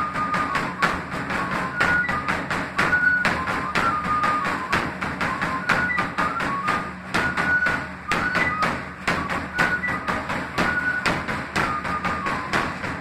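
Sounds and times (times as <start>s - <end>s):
drums struck with sticks: 0.0s - 13.0s
high thin flute melody: 0.0s - 13.0s.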